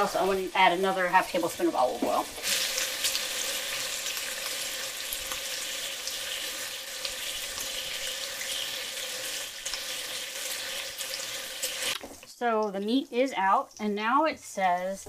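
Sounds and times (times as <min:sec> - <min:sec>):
bacon sizzling in a frying pan: 0:00.0 - 0:15.0.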